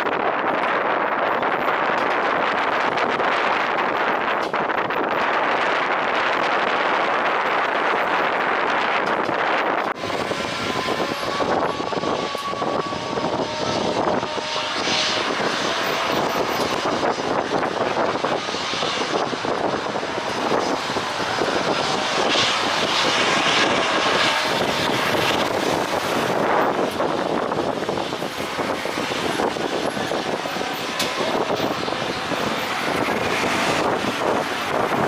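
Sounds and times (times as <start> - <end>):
jet engines roaring: 0.0 - 35.0
wind buffeting microphone: 0.0 - 35.0.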